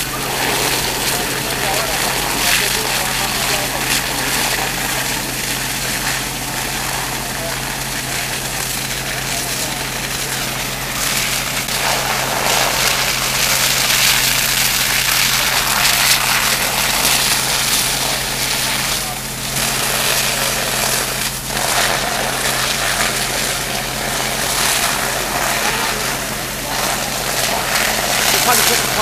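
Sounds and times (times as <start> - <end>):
engine droning: 0.0 - 29.0
fire hose stream hissing: 0.0 - 29.0.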